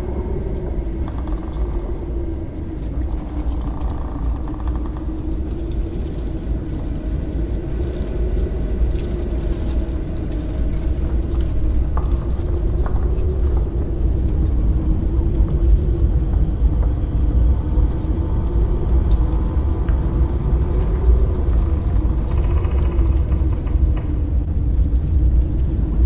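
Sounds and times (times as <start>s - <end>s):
deep rumble: 0.0s - 26.0s
low wavering drone: 0.0s - 26.0s.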